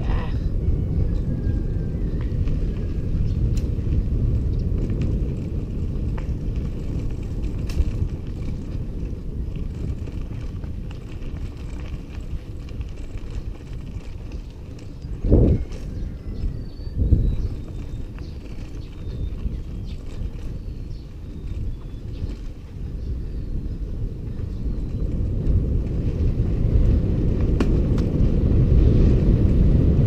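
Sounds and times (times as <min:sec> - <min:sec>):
bicycle tyres rumbling on dirt: 0:00.0 - 0:30.0
wind buffeting microphone: 0:00.0 - 0:30.0.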